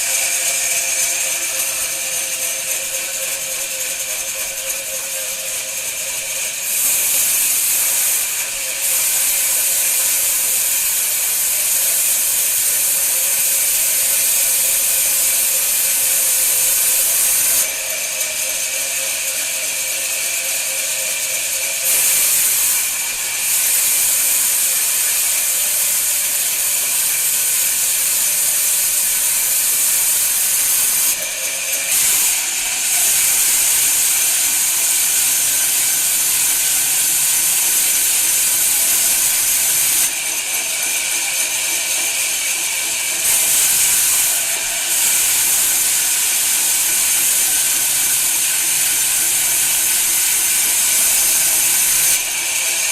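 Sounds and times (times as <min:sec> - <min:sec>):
power tool cutting wood: 0:00.0 - 0:52.9.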